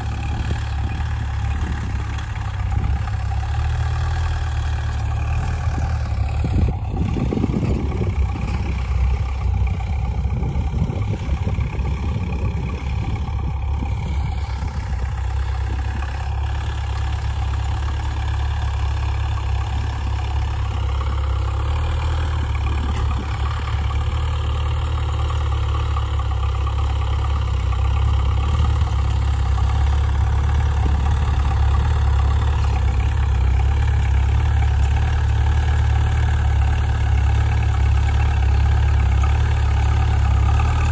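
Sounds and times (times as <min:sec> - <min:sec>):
tractor diesel engines droning: 0:00.0 - 0:40.9.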